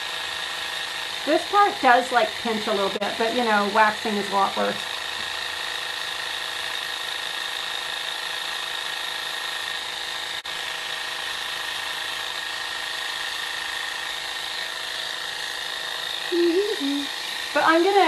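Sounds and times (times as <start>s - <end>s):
epilator motor whining: 0.0s - 18.0s.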